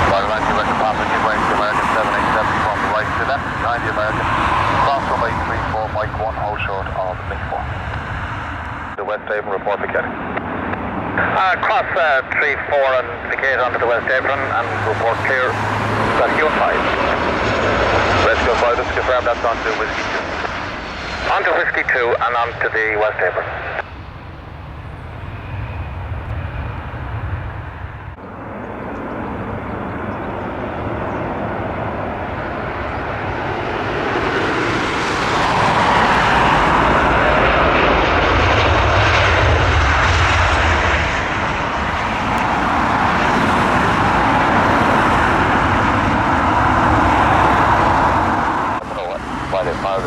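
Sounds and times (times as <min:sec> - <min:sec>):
jet airliner engine roar: 0:00.0 - 0:50.0.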